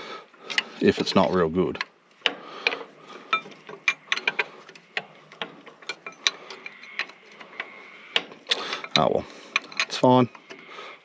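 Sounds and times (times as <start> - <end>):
hand tools clicking on metal: 0.4 - 11.0.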